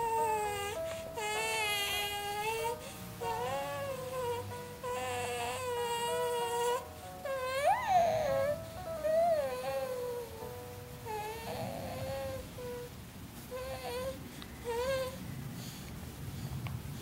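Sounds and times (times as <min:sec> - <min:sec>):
infant crying: 0:00.0 - 0:12.9, 0:13.5 - 0:15.2.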